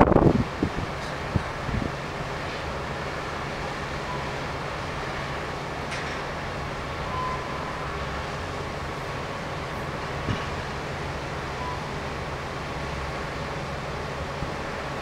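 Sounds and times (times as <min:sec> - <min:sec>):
ship engine rumble: 0:00.0 - 0:15.0.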